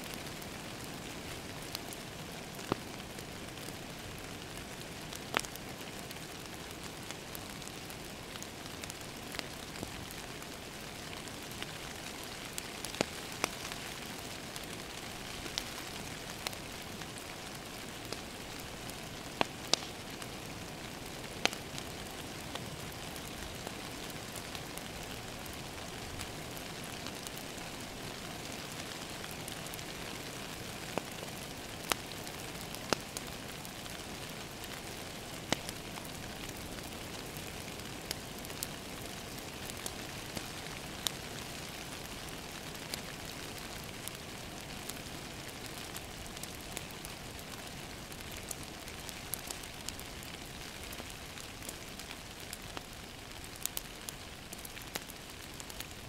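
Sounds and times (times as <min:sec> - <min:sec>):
wood fire crackling: 0:00.0 - 0:56.0
fire popping: 0:00.1 - 0:56.0.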